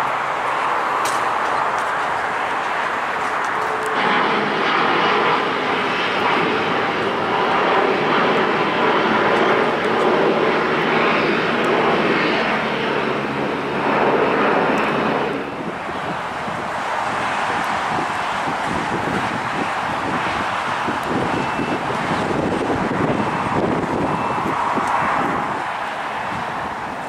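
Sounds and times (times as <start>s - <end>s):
jet engine on landing rollout: 0.0s - 27.0s
taxiing jet engine noise: 0.0s - 27.0s.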